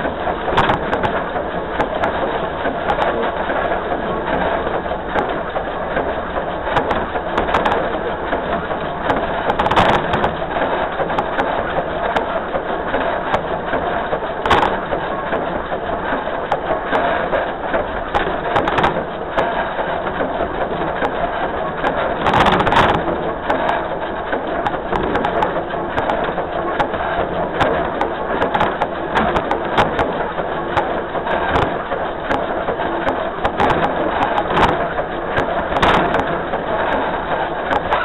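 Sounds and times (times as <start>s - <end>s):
steam train wheels clattering: 0.0s - 38.0s.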